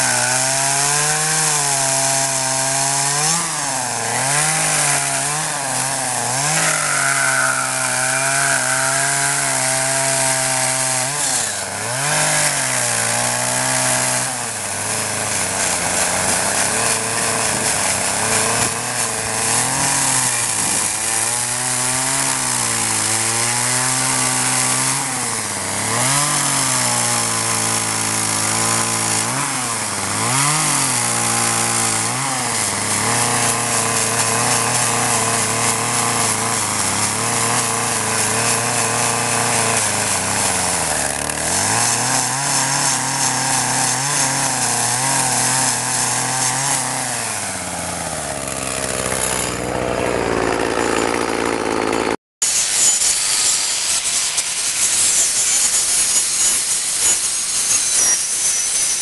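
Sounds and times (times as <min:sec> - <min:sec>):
angle grinder whining: 0:00.0 - 0:59.0
chainsaw cutting wood: 0:00.0 - 0:59.0.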